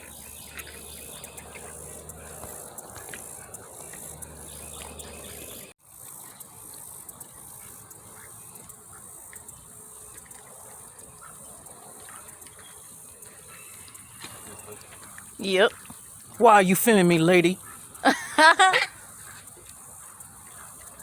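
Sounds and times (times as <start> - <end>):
faint small ticks: 0.0 - 16.4, 19.0 - 21.0
crickets chirring: 0.0 - 21.0.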